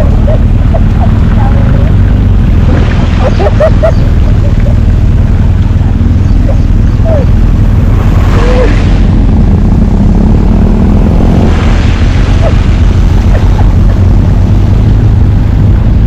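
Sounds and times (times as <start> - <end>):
motorcycle engine hum: 0.0 - 16.0
wind rush on microphone: 0.0 - 16.0.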